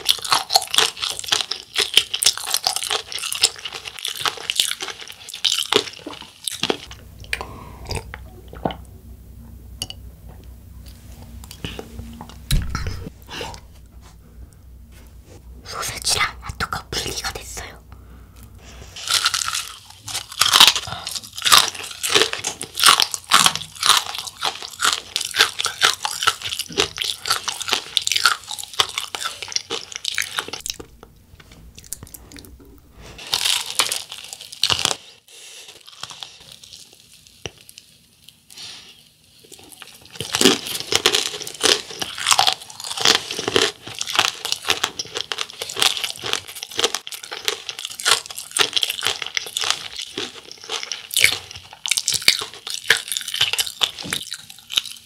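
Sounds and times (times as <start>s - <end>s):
crunching and chewing: 0.0s - 8.9s, 18.3s - 55.0s.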